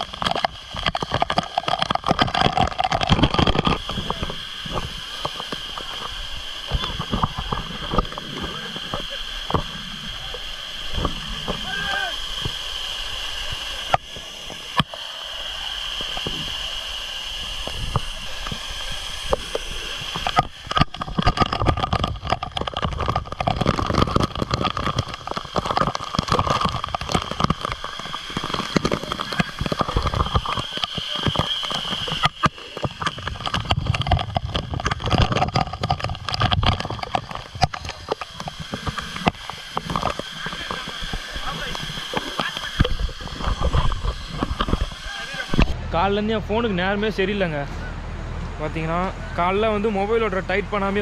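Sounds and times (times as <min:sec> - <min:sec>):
waterfall rushing and splashing: 0:00.0 - 0:45.8.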